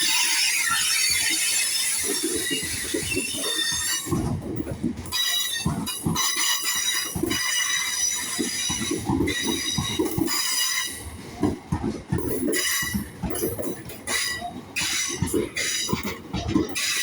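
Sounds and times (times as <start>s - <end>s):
train wheels squealing on rails: 0.0s - 17.0s.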